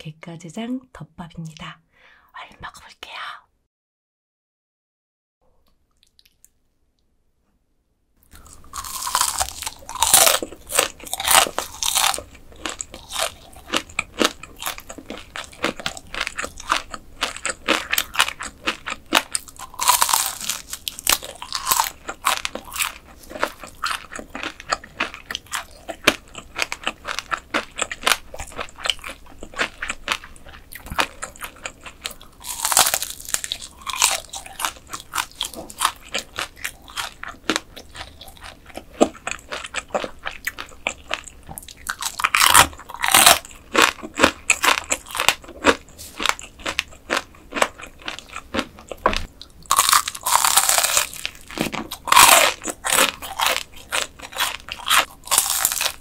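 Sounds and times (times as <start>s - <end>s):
crunching bites and chewing: 8.2s - 56.0s.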